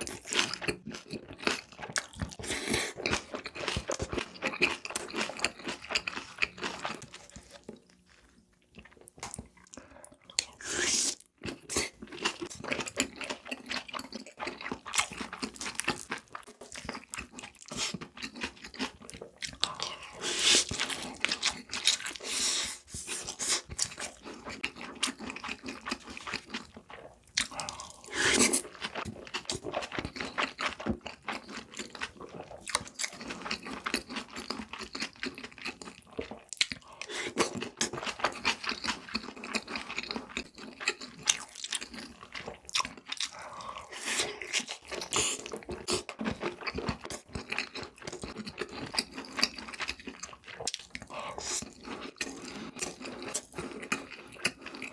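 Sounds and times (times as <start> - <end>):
crunching and chewing food: 0.0 - 54.9.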